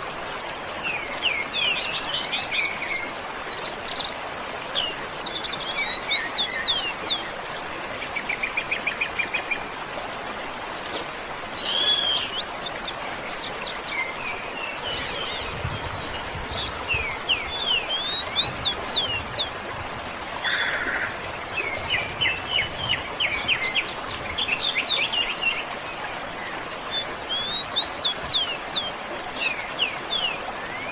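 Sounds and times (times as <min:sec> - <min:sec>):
waterfall rushing: 0:00.0 - 0:30.9
birds singing and calling: 0:00.4 - 0:09.8, 0:10.8 - 0:30.9.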